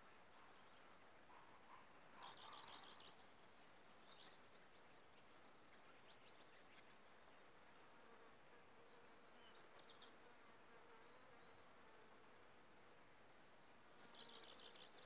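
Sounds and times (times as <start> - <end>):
faint bird chirps: 0.0 - 7.8, 8.8 - 11.8, 13.2 - 15.0
steady faint hiss: 0.0 - 15.0.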